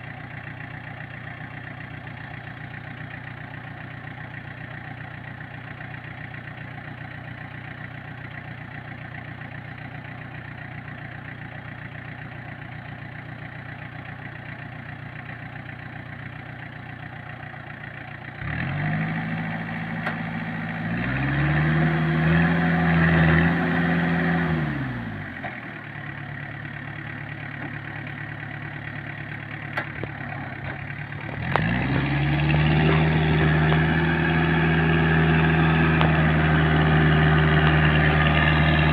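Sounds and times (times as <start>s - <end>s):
diesel truck engine idling and revving: 0.0s - 38.9s.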